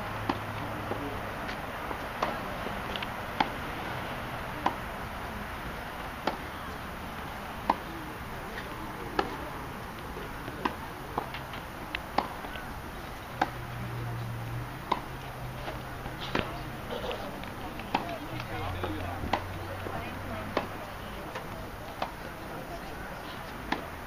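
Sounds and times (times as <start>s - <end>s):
tennis balls hit and bouncing: 0.0s - 24.0s.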